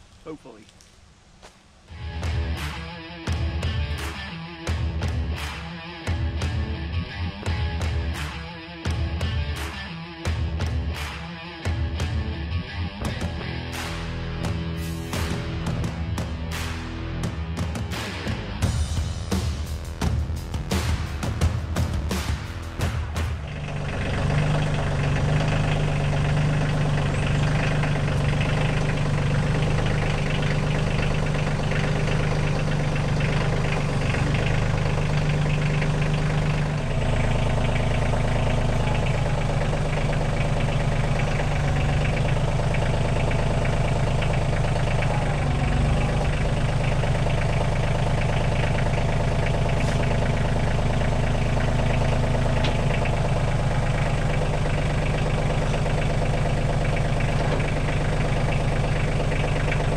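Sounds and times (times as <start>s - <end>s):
tractor diesel engine running: 1.8s - 59.9s.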